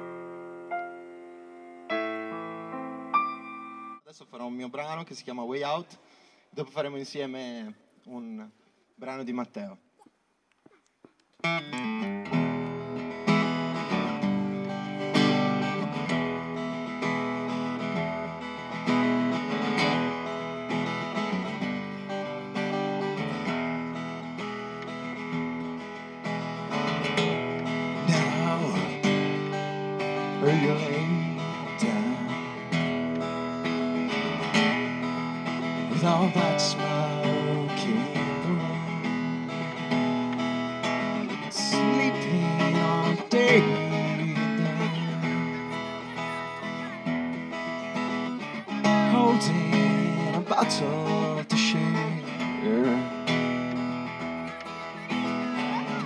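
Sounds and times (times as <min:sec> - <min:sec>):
acoustic guitar strumming and picking: 0:00.0 - 0:04.0, 0:11.4 - 0:56.0.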